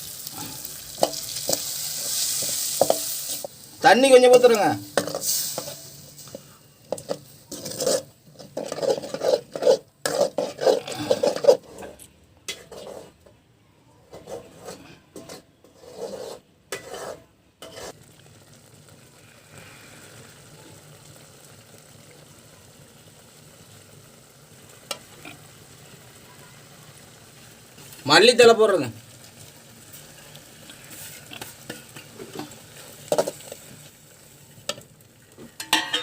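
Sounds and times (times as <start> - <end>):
spoon stirring in frying pan: 0.0 - 13.4, 14.0 - 36.0
faint sizzle: 0.0 - 36.0.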